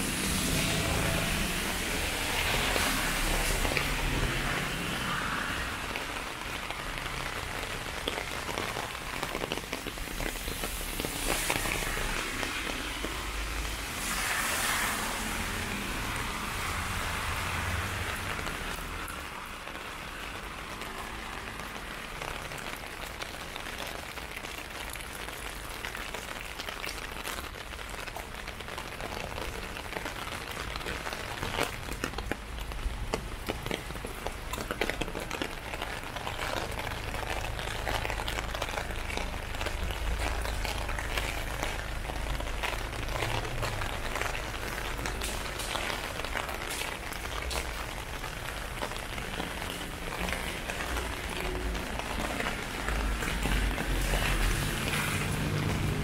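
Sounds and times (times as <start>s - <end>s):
heavy rain on umbrella: 0.0s - 56.0s.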